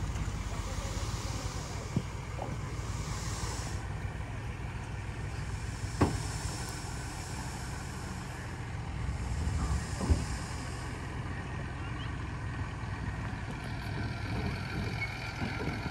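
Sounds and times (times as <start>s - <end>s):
diesel machinery running: 0.0s - 15.9s.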